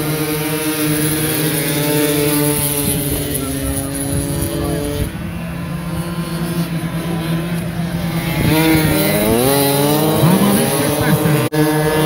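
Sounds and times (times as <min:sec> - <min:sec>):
scooter engines accelerating: 0:00.0 - 0:12.0.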